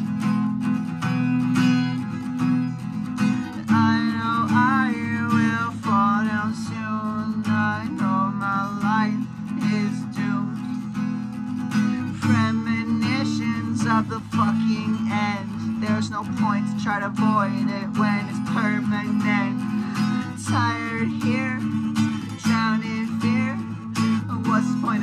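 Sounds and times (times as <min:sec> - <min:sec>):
acoustic guitar strumming: 0:00.0 - 0:25.0
man singing: 0:01.7 - 0:25.0.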